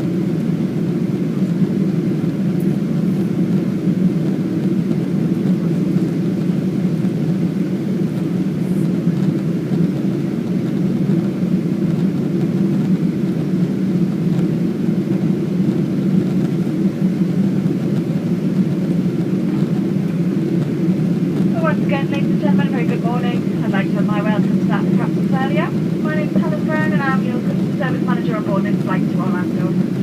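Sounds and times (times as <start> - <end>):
airliner cabin roar: 0.0 - 30.0.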